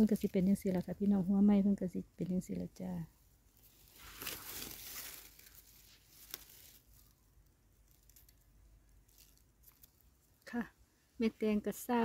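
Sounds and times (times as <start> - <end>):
dry soil rustling and crumbling: 0.0 - 1.5, 2.2 - 10.6.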